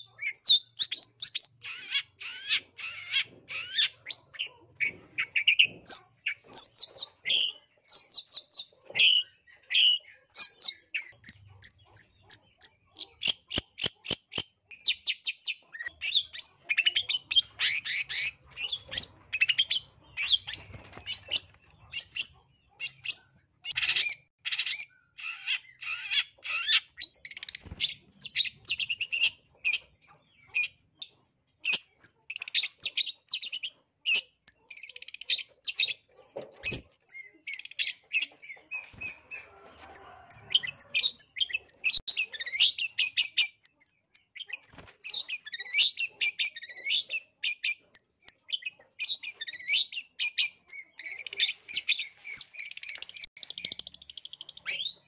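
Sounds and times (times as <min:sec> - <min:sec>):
bird singing varied chirps: 0:00.0 - 0:39.5, 0:40.1 - 0:55.0.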